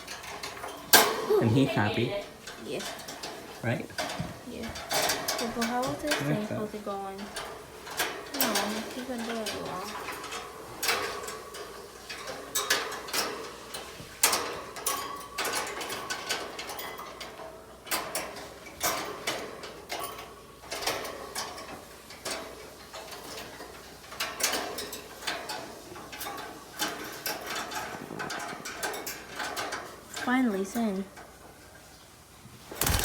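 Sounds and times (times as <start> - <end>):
parts clicking and rattling: 0.0 - 30.0, 32.6 - 33.0.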